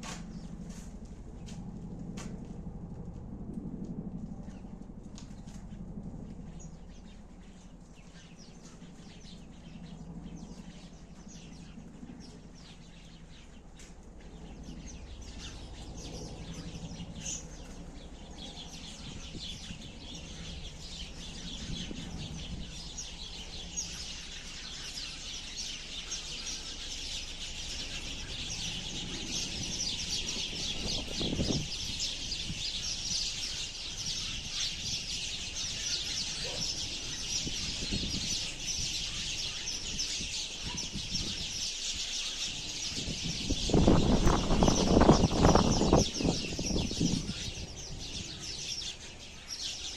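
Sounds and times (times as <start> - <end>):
sparrows chirping: 4.4 - 49.9.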